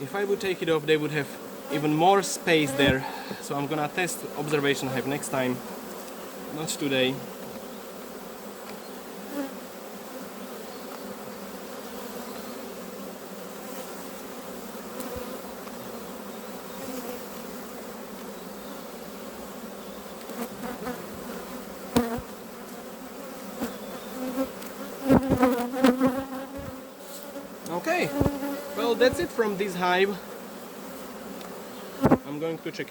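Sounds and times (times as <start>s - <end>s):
honeybees buzzing: 0.0s - 32.9s.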